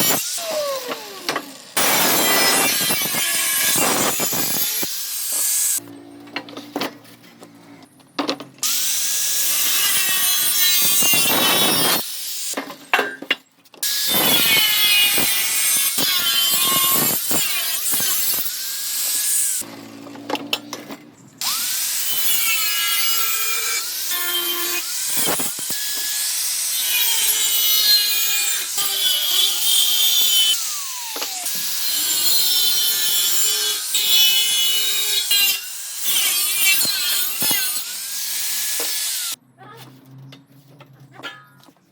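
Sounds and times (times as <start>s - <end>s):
power tool cutting metal: 0.0s - 5.9s, 8.6s - 12.6s, 13.8s - 20.6s, 21.4s - 39.4s.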